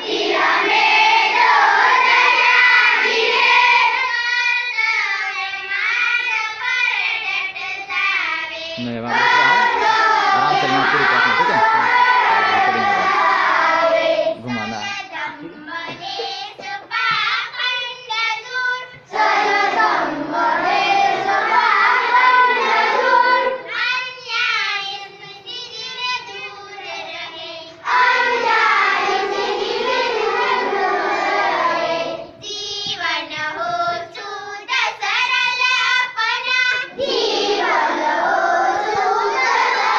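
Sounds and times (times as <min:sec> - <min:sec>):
children singing in unison: 0:00.0 - 0:39.9.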